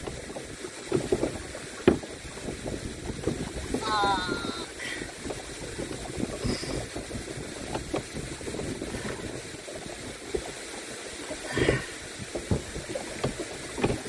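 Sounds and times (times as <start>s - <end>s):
paddle knocks and splashes: 0.0s - 14.0s
water rushing: 0.0s - 14.0s
wind noise: 0.0s - 14.0s.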